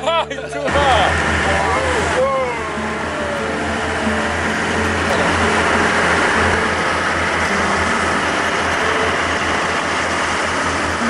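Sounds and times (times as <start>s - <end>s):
boat engine droning: 0.0s - 11.0s
water and wind rushing: 0.7s - 11.0s.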